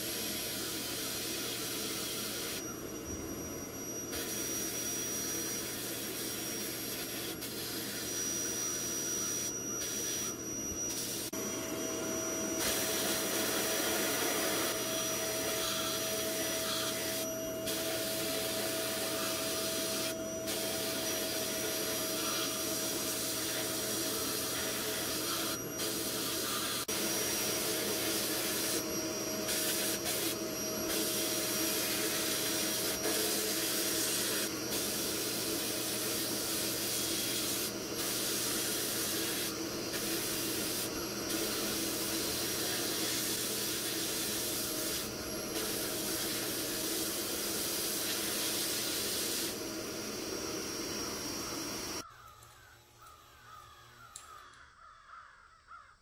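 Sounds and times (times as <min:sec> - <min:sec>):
sandblasting gun hissing: 0:00.0 - 0:02.6, 0:03.9 - 0:52.0.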